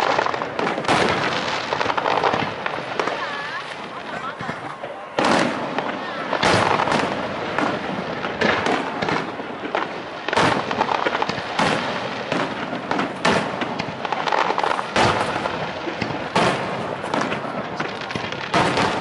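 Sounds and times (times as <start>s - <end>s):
firework crackling: 0.0s - 19.0s
firework shells bursting: 0.0s - 19.0s.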